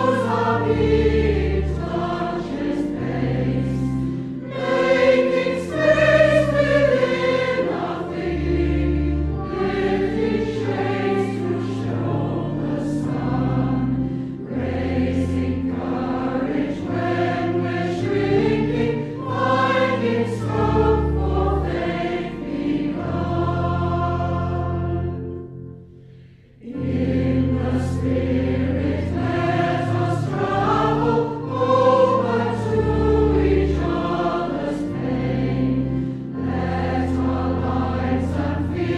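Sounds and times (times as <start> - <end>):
congregation singing a hymn: 0.0 - 38.9
instrumental accompaniment: 0.0 - 38.9.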